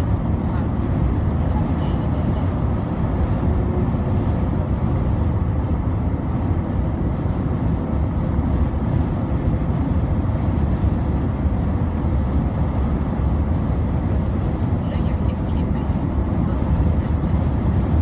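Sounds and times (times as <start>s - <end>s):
car road and engine noise: 0.0s - 18.0s
trucks driving alongside: 0.0s - 18.0s.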